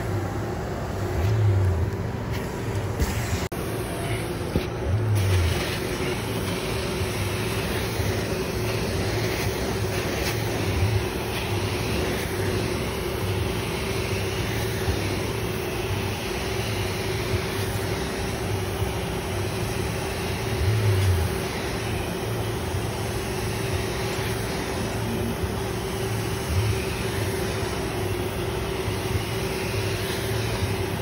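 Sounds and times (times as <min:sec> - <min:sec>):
steady machine hum: 0:00.0 - 0:31.0
carpet extraction suction rush: 0:00.8 - 0:31.0.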